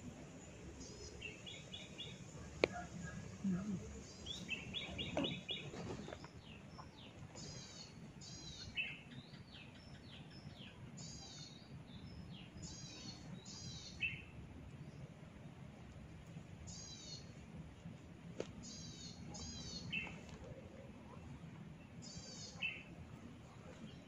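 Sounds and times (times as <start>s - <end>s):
faint low background noise: 0.0s - 24.0s
small birds chirping: 0.0s - 24.0s.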